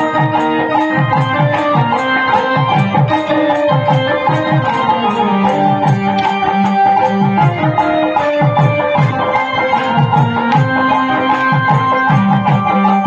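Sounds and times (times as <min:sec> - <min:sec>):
fast drum beat: 0:00.0 - 0:13.0
melody: 0:00.0 - 0:13.0.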